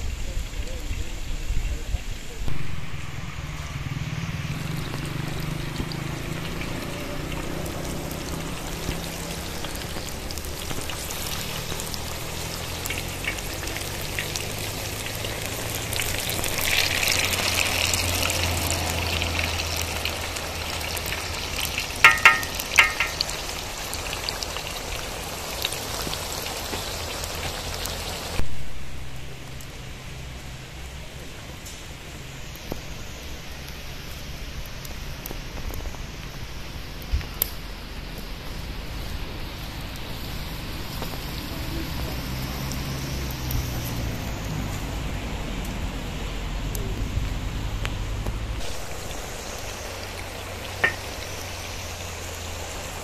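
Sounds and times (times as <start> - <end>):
vegetables sizzling in hot oil: 2.3 - 53.0.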